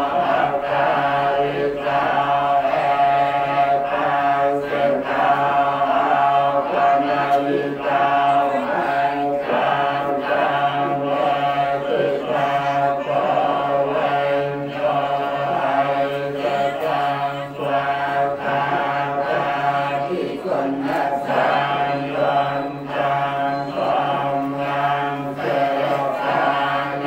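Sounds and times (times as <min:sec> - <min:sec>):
monks chanting in unison: 0:00.0 - 0:27.0.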